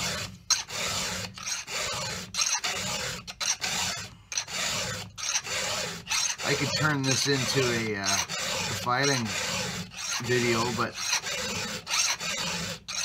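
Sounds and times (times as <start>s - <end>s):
file rasping on chainsaw chain: 0.0s - 13.0s.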